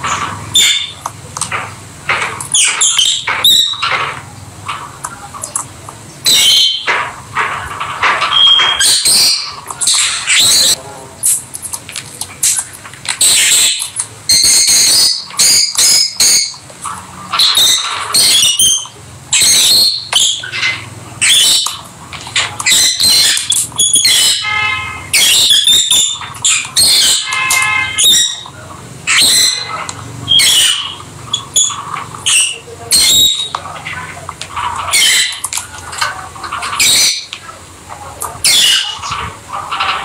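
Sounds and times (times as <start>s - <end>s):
lovebirds chirping and squawking: 0.0s - 40.0s.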